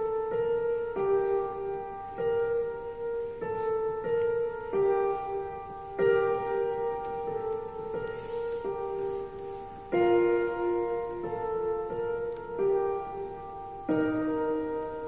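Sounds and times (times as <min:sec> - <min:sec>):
keyboard playing piano chords: 0:00.0 - 0:15.0.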